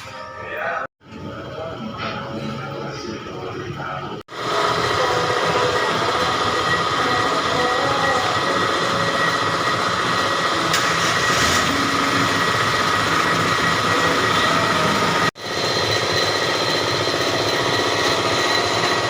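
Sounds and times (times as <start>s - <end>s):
engine rumbling with whining tones: 1.0s - 19.0s.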